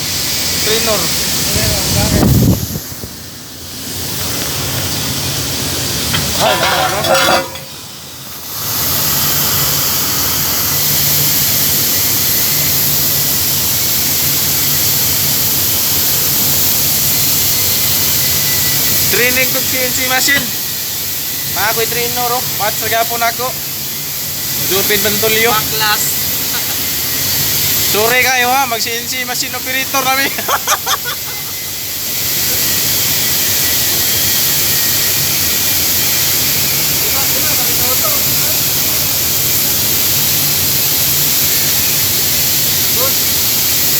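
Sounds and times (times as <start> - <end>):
cutting torch hissing: 0.0 - 43.9.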